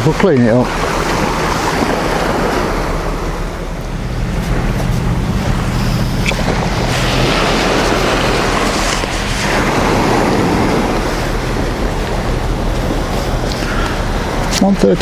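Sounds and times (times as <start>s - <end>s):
low steady hum: 0.0s - 15.0s
sea surf washing on beach: 0.0s - 15.0s
wind buffeting microphone: 0.0s - 15.0s.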